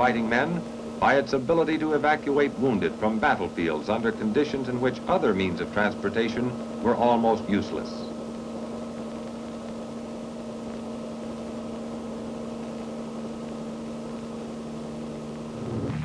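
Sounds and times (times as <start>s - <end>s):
helicopter engine drone: 0.0s - 16.0s.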